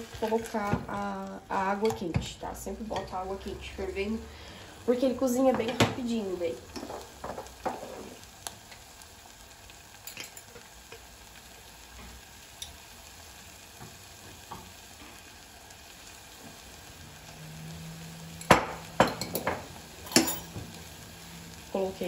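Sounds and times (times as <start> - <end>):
rice sizzling in a pot: 0.0 - 22.0.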